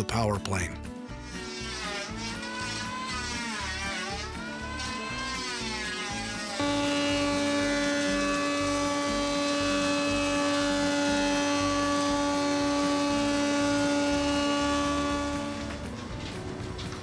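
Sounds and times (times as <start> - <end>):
thickness planer humming: 0.9 - 17.0.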